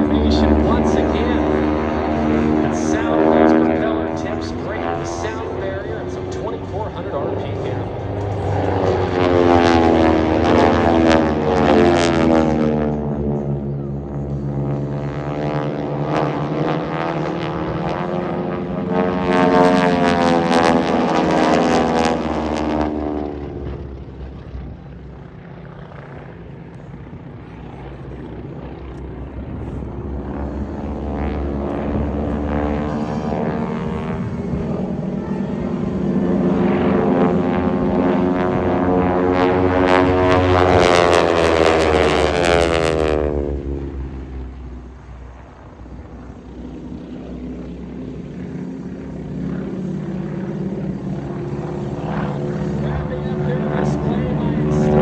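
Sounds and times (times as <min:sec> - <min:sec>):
propeller planes flying past: 0:00.0 - 0:55.0.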